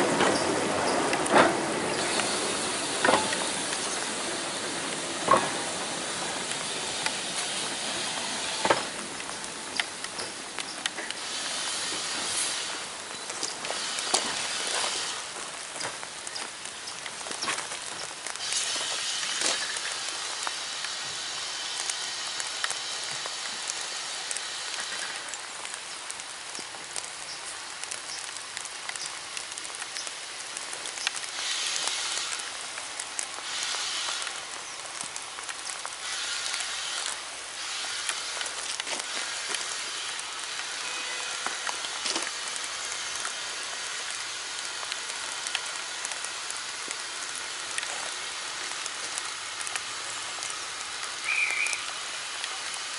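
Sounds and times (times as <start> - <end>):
steam train hissing: 0.0 - 16.7, 17.8 - 25.5, 30.5 - 52.9
raindrop ticks: 0.0 - 52.9
steady rain: 0.0 - 52.9.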